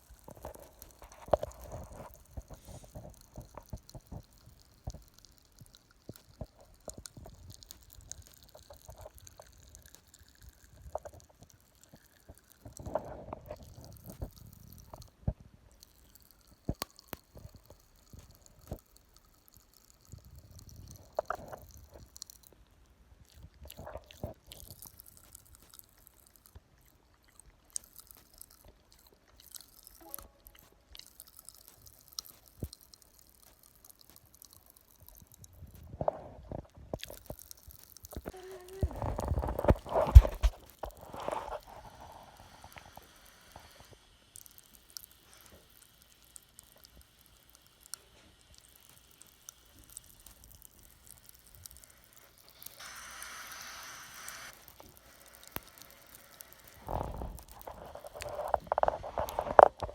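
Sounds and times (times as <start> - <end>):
chewing: 0.0 - 53.4, 54.2 - 59.9
popping candy crackling: 0.0 - 59.9.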